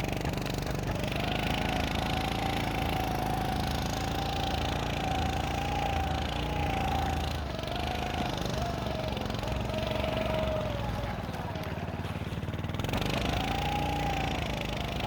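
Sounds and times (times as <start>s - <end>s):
snow scooter engine running: 0.0s - 15.0s.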